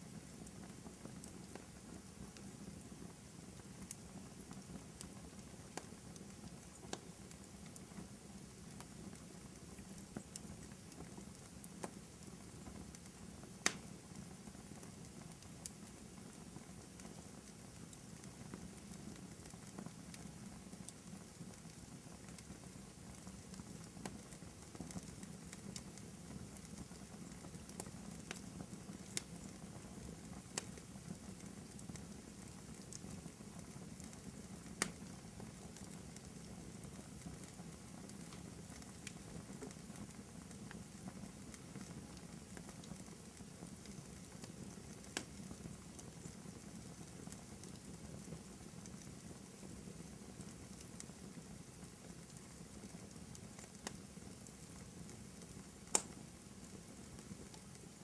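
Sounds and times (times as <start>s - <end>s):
burning wood crackling and popping: 0.0s - 58.0s
low rumble of flames: 0.0s - 58.0s.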